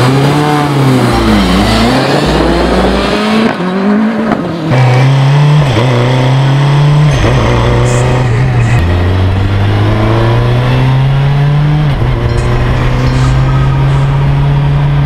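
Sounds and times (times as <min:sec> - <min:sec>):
engine accelerating hard: 0:00.0 - 0:15.0.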